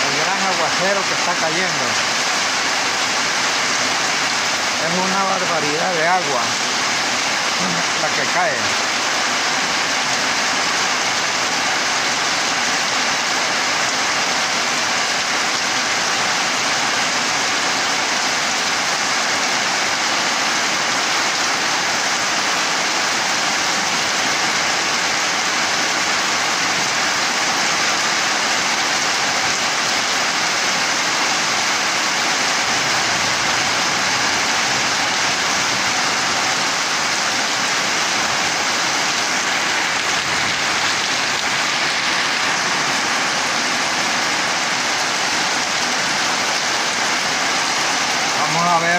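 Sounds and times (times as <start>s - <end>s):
heavy rain on leaves: 0.0s - 48.9s.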